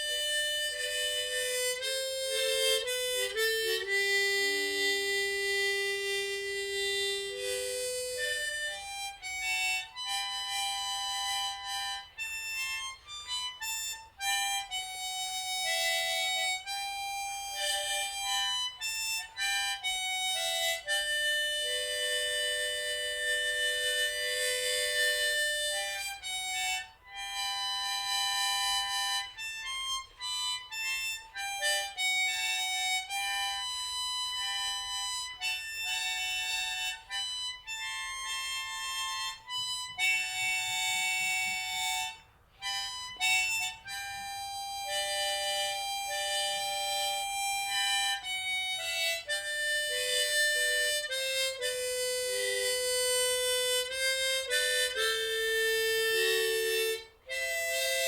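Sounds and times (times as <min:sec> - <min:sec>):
harmonica slow melody: 0:00.0 - 0:58.0.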